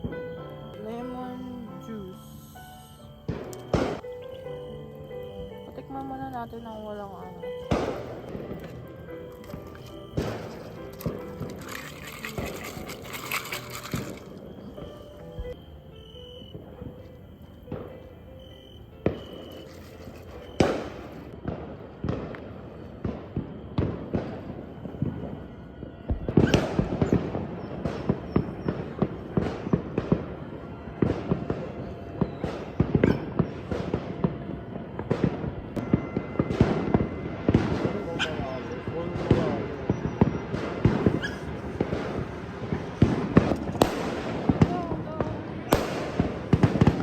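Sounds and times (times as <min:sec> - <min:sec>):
fireworks and firecrackers banging: 0:00.0 - 0:47.0.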